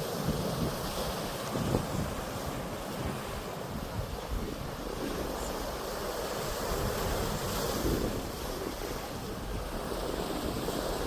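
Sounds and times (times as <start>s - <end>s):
sea waves washing in: 0.0s - 11.0s
wind buffeting microphone: 0.0s - 11.0s.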